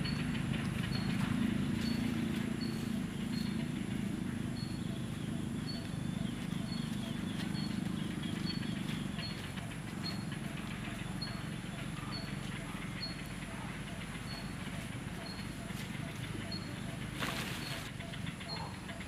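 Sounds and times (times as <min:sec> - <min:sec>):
rustles of dry leaf litter: 0:00.0 - 0:18.1
steady low hum: 0:00.0 - 0:19.0.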